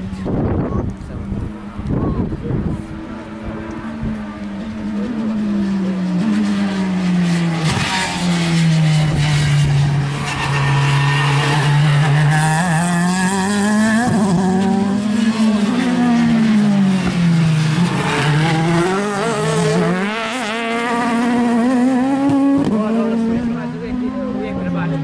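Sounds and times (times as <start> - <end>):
racing car engines revving: 0.0 - 25.0.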